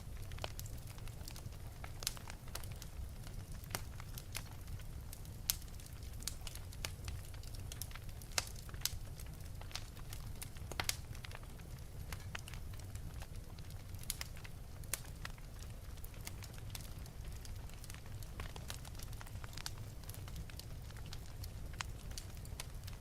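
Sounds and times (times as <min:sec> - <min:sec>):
fire flames rumbling: 0:00.0 - 0:23.0
wood fire crackling and popping: 0:00.0 - 0:23.0.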